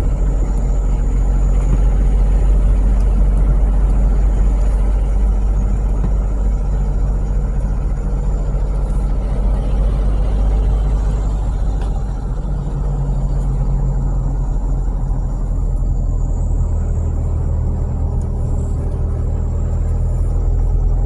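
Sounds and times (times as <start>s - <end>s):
car engine drone: 0.0s - 21.0s
road rumble: 0.0s - 21.0s.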